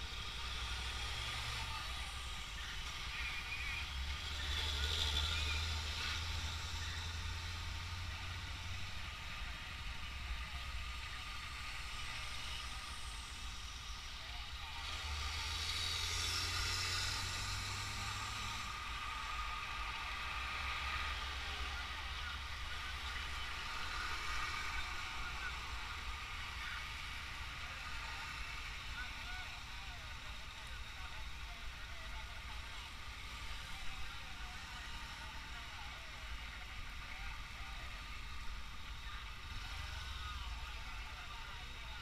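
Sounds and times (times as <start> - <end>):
low traffic hum: 0.0 - 42.0
trucks passing by: 0.0 - 42.0.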